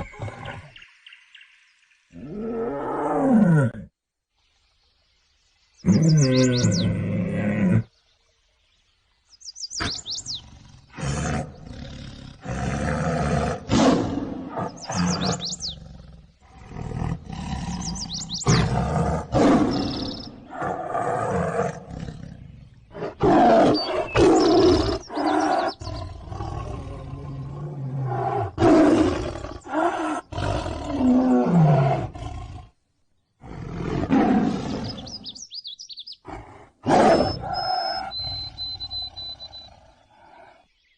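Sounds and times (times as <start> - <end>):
birds chirping: 0.0 - 2.6, 4.4 - 31.3, 32.9 - 40.9
tiger roaring and growling: 2.1 - 4.0, 5.8 - 7.9, 9.8 - 32.8, 33.4 - 35.3, 36.2 - 40.6.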